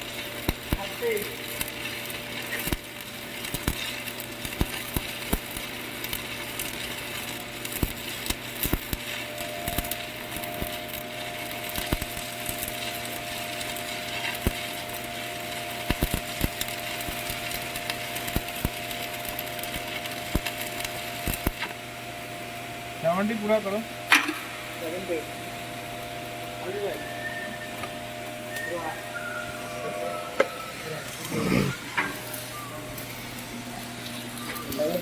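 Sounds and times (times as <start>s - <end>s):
welding arc hissing and crackling: 0.0s - 35.0s.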